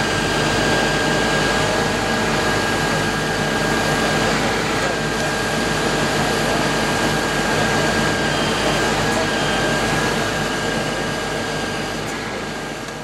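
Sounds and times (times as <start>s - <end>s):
heavy machinery diesel engines: 0.0s - 13.0s
thin steady whine: 0.0s - 13.0s.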